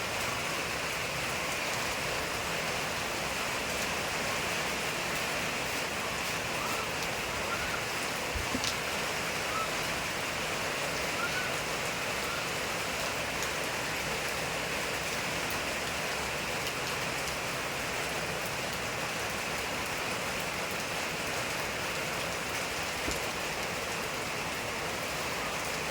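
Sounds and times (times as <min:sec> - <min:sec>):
steady rain falling: 0:00.0 - 0:25.9
raindrops ticking: 0:00.1 - 0:24.1.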